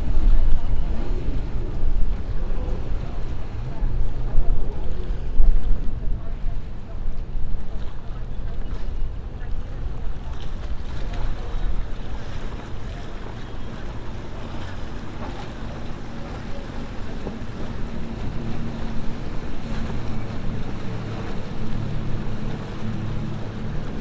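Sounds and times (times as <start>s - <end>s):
powerboat engines droning: 0.0s - 24.0s
wash of waves: 0.0s - 24.0s
wind noise on microphone: 0.0s - 24.0s.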